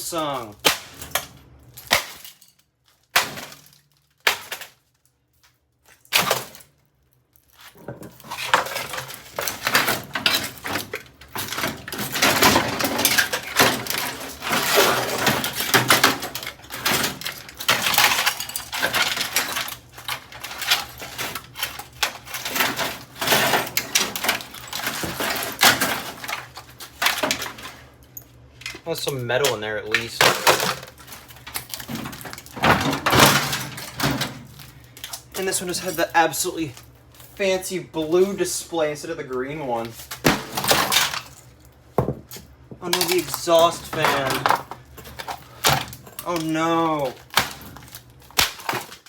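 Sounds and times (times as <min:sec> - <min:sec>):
crashing and clattering parts: 0:00.1 - 0:06.8, 0:07.4 - 0:49.0.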